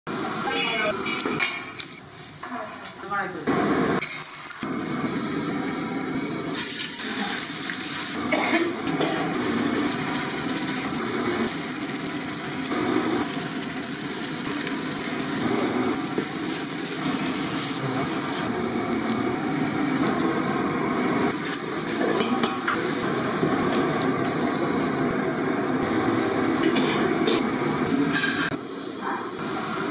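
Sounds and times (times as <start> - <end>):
gas stove rushing hiss: 0.1 - 29.9.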